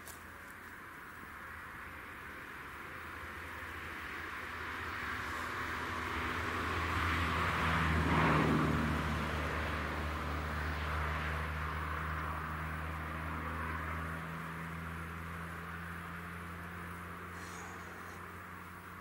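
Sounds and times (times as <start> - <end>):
steady low hum: 0.0 - 19.0
vehicle passing by: 1.4 - 19.0.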